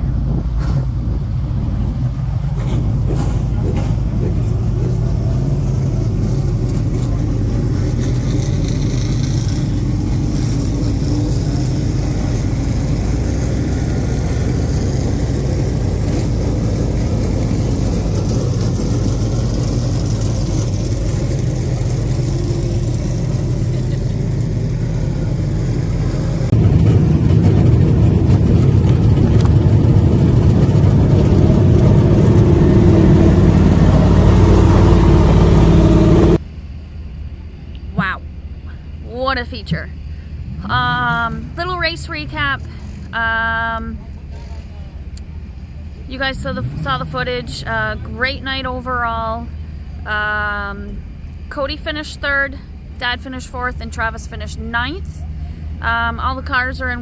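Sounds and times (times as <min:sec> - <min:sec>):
race car engines running hard: 0:00.0 - 0:36.5, 0:37.7 - 0:57.0.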